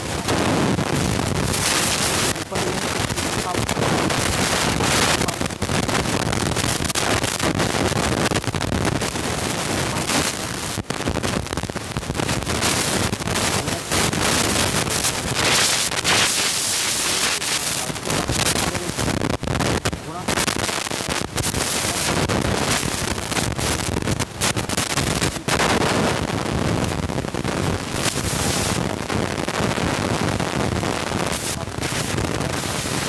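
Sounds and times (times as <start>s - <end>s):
steady rushing noise with crackles: 0.0s - 33.0s.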